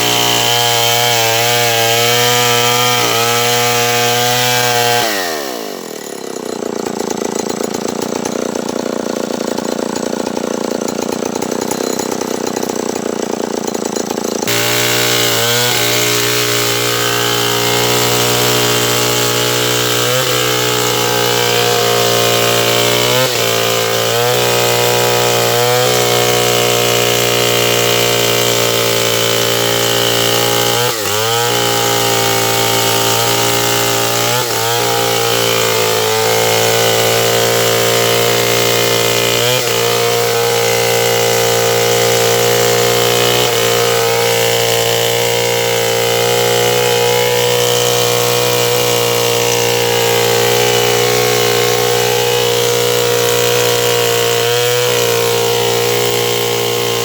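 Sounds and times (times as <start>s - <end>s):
chainsaw sawing wood: 0.0s - 57.0s.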